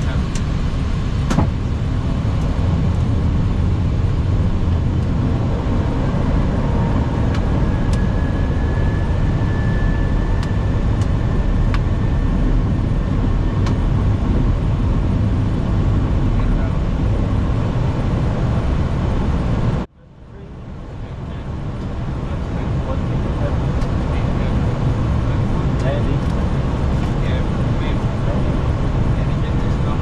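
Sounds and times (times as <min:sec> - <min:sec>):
low rumble of airflow: 0:00.0 - 0:30.0.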